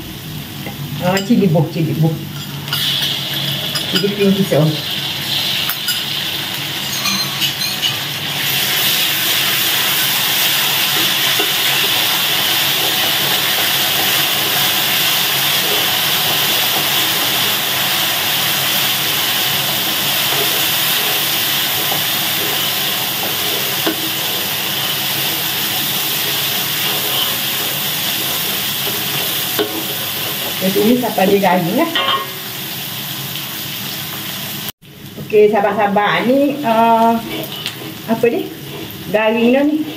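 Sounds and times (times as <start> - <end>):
aromatics sizzling in hot oil: 0.0 - 39.9.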